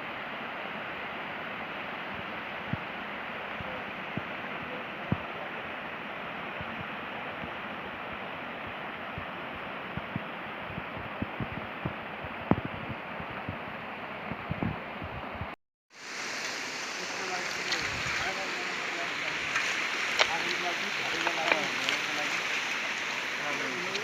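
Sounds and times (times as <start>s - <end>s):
steady rushing outdoor noise: 0.0s - 24.0s.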